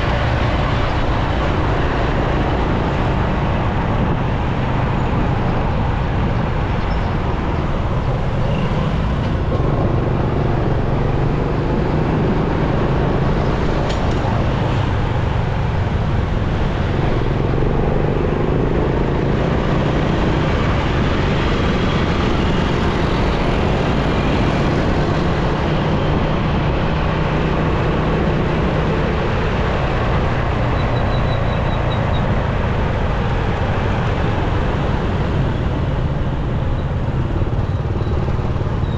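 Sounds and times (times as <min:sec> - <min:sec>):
motorcycle engine and road noise: 0:00.0 - 0:38.9.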